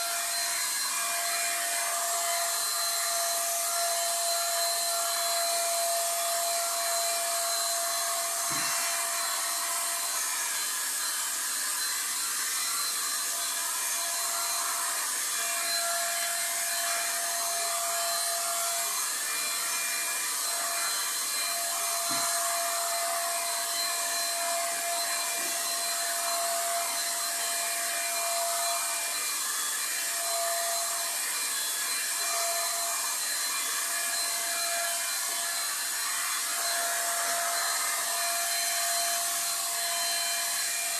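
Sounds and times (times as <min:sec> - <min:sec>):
thin steady whine: 0:00.0 - 0:40.9.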